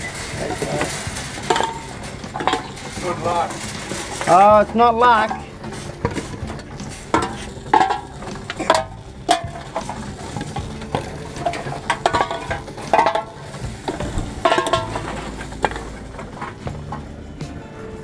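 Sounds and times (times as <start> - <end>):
cans and bottles clattering: 0.0 - 17.8.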